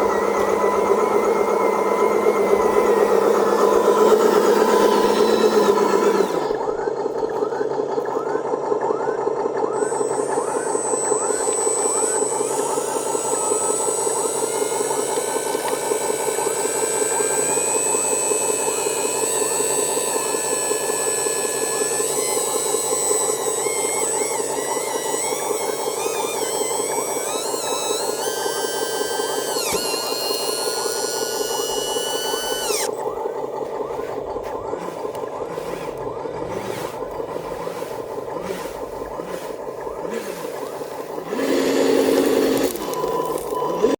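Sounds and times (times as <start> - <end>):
high electric motor whine: 0.0 - 43.9
simulated diesel truck engine: 0.0 - 43.9.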